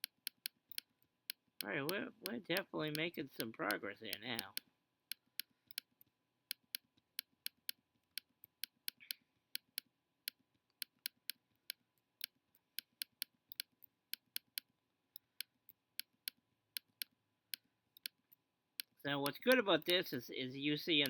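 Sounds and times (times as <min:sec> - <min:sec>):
computer mouse clicking: 0:00.0 - 0:20.1.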